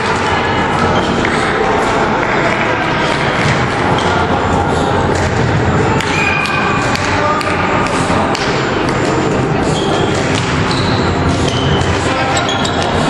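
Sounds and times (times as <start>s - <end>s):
players talking: 0.0s - 13.0s
volleyballs thumping: 0.0s - 13.0s.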